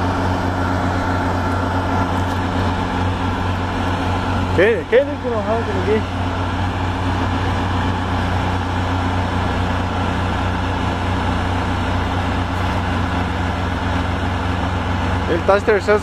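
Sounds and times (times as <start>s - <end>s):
truck engine droning under load: 0.0s - 16.0s.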